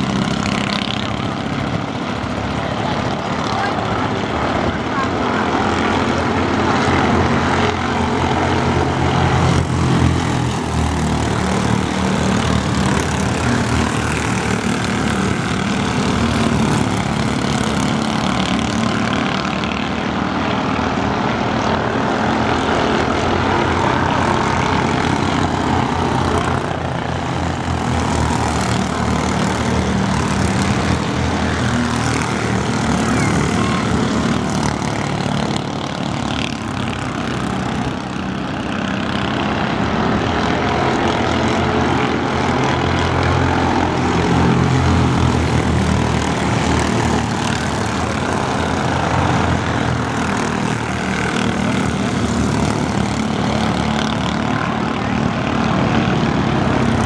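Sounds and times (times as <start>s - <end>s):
race car engines droning: 0.0s - 57.0s.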